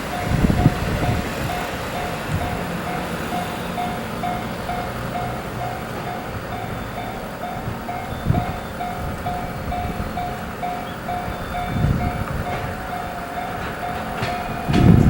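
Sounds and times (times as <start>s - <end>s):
freight train rumble: 0.0s - 15.0s
level-crossing electronic bell: 0.0s - 15.0s.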